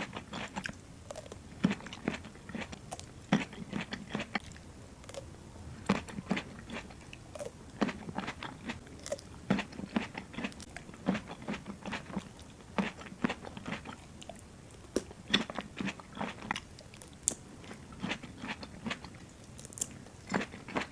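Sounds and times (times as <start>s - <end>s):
crisp wet chewing of grapes: 0.0s - 20.9s.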